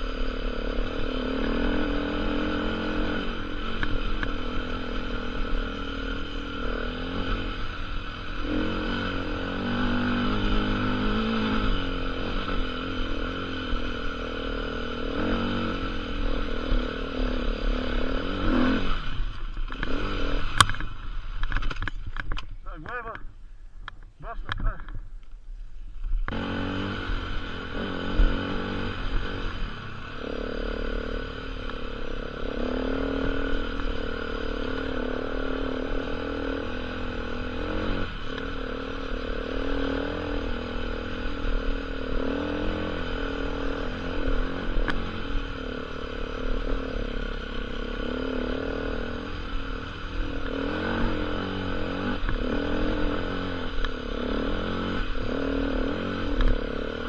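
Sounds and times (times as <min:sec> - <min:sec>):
motorcycle engine revving: 0:00.0 - 0:23.3, 0:25.9 - 0:57.0.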